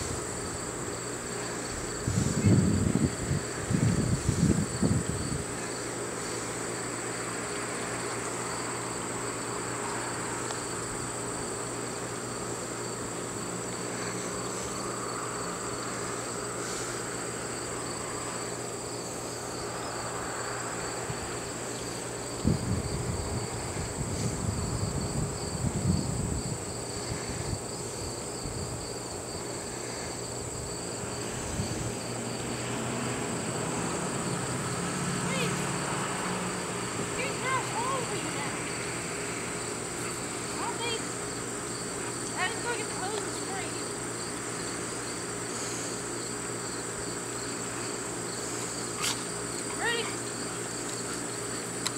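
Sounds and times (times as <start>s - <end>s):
insect chorus whine and trill: 0.0s - 51.9s.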